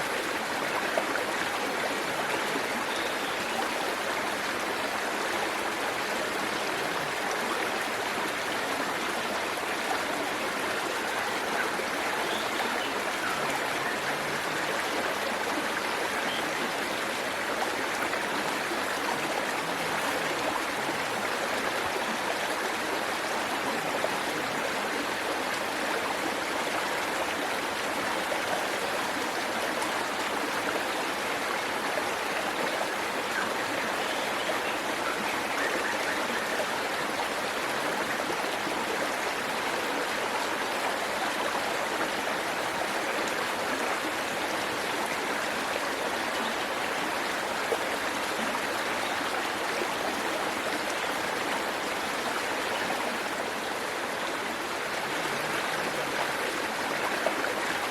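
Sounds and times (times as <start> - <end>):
waterfall and stream rushing: 0.0 - 57.9.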